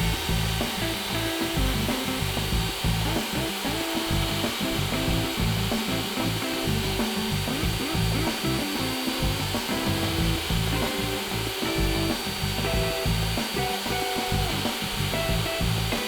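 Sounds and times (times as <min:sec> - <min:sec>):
melodic music with pulsing bass: 0:00.0 - 0:16.0.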